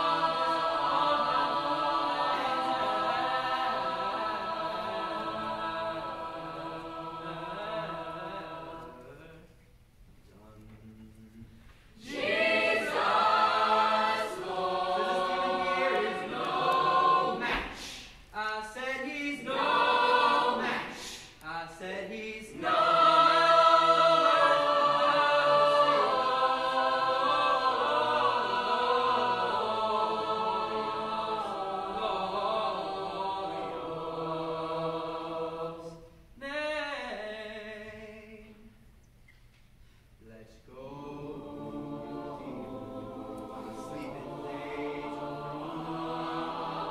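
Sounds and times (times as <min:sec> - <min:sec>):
choir singing a cappella: 0:00.0 - 0:09.6, 0:10.9 - 0:38.8, 0:40.4 - 0:46.9.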